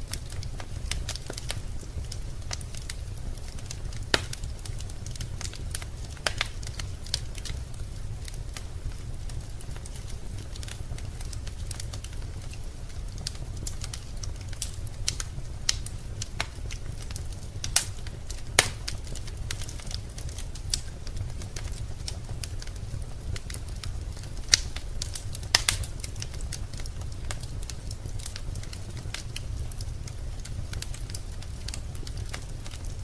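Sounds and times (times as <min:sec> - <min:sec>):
low rumble of fire: 0:00.0 - 0:33.0
wood fire crackling and popping: 0:00.0 - 0:33.0.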